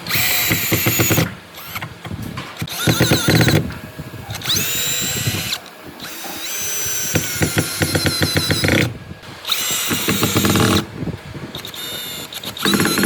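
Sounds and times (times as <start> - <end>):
power drill motor whine: 0.0 - 13.0.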